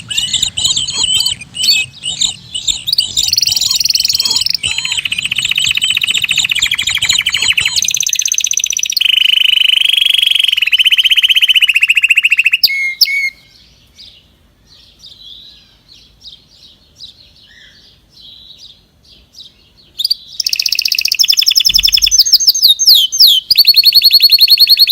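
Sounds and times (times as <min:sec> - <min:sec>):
scattered bird chirps: 0:00.0 - 0:18.7, 0:19.4 - 0:24.9
birds singing rapid trills: 0:00.0 - 0:24.9.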